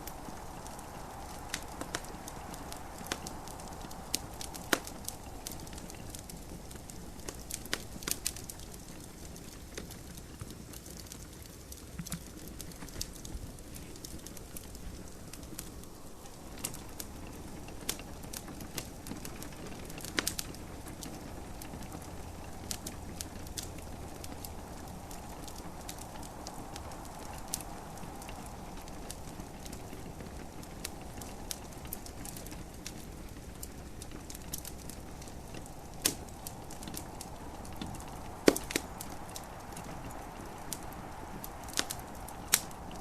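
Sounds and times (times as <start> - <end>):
rain hissing: 0.0 - 9.8, 12.3 - 43.0
wood fire crackling: 0.0 - 43.0.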